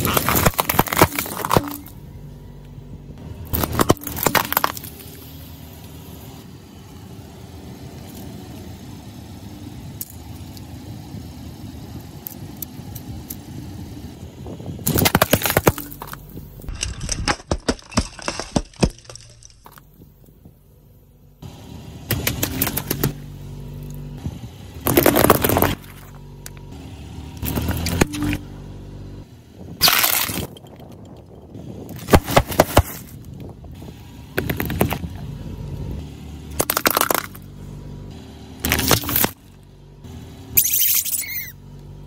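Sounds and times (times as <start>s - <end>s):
low car hum: 0.0s - 42.0s.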